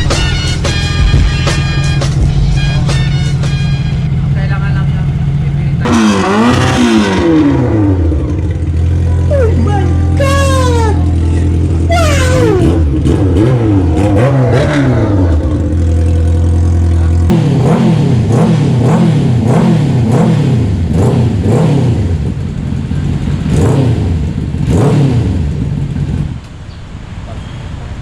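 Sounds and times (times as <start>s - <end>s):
motorcycle engine revving: 0.0s - 27.8s.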